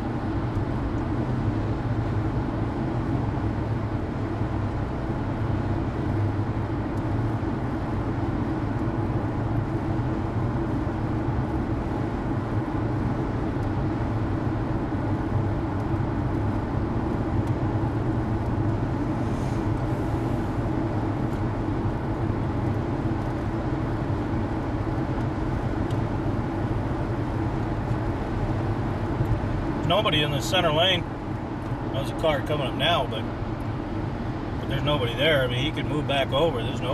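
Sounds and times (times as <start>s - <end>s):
road and engine drone: 0.0s - 36.9s.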